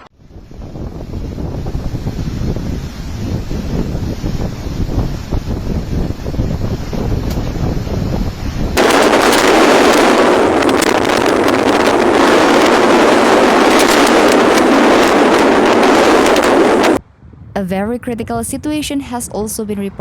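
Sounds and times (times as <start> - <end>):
crackling wind hiss: 0.0 - 17.6
wind buffeting microphone: 0.0 - 20.0.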